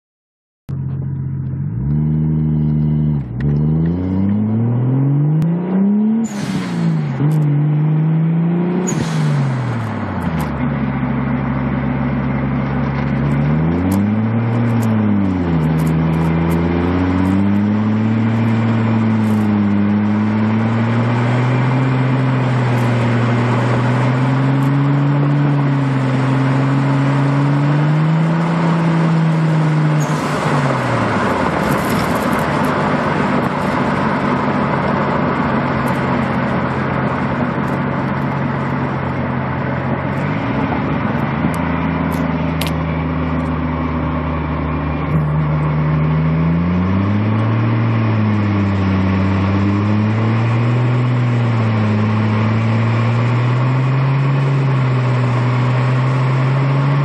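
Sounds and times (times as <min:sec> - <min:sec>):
car engine revving while driving: 0:00.7 - 0:57.0.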